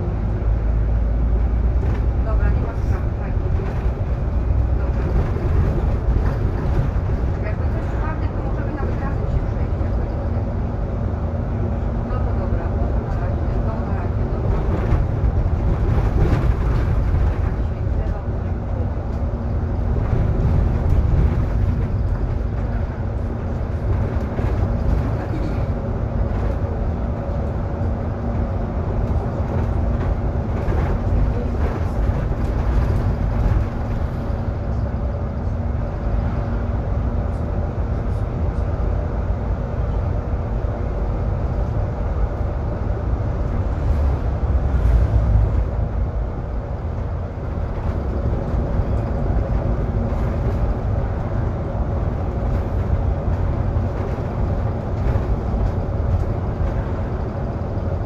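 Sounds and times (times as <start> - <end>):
bus road and drivetrain rumble: 0.0 - 58.0
constant hum: 0.0 - 58.0.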